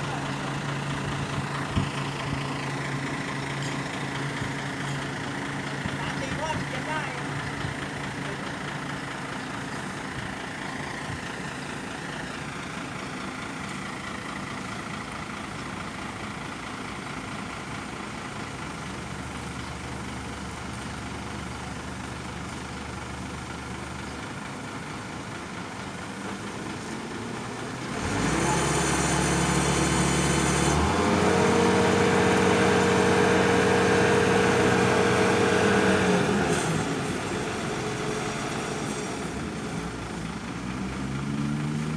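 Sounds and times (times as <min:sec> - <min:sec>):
heavy engine idling: 0:00.0 - 0:41.9.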